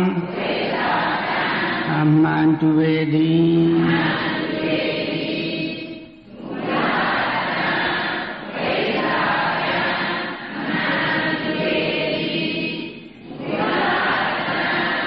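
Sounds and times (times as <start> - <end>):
group of voices chanting: 0.0 - 2.0, 3.8 - 15.0.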